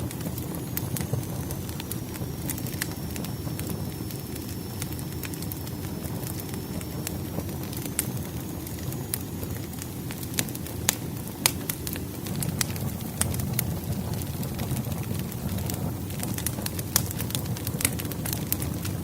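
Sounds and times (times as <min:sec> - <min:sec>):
fire burning: 0:00.0 - 0:19.0
logs crackling and popping: 0:00.0 - 0:19.0.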